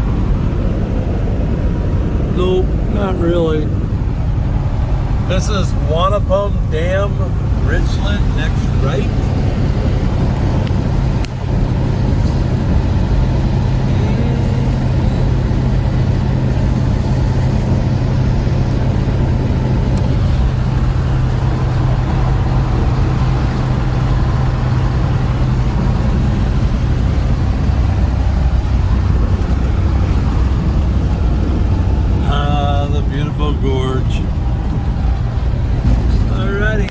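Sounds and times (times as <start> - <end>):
road noise: 0.0 - 36.9
vehicle engine drone: 0.0 - 36.9.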